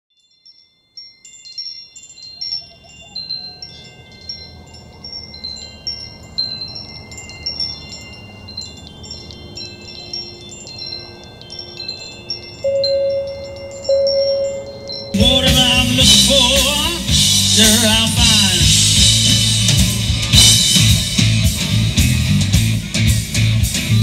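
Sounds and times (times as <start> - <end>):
wind chimes tinkling: 0.1 - 20.8.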